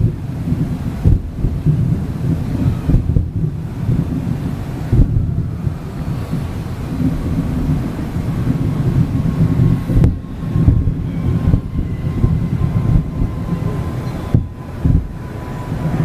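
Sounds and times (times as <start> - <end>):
fireworks booming: 0.0 - 16.0.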